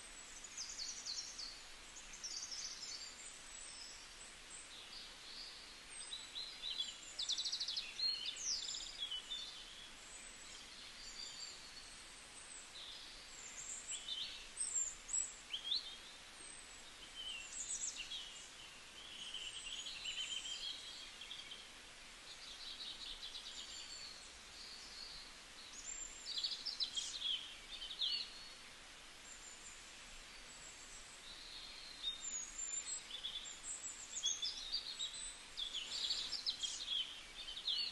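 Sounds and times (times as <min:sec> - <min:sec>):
small birds chirping and singing: 0:00.0 - 0:37.9
steady background hiss: 0:00.0 - 0:37.9.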